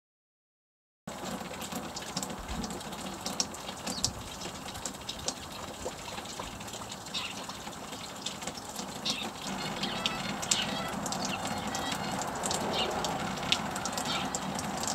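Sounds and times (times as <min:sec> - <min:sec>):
songbirds chirping: 0:02.8 - 0:14.9.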